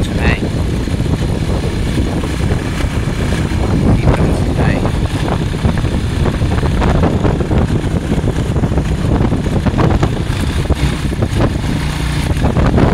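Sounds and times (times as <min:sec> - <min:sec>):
motorbike engine: 0:00.0 - 0:12.9
wind buffeting microphone: 0:00.0 - 0:12.9.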